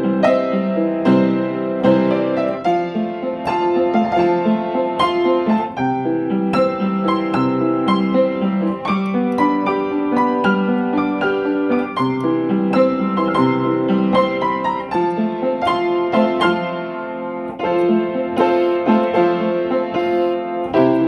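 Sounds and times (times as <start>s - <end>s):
keyboard music piano-like notes: 0.0s - 21.0s.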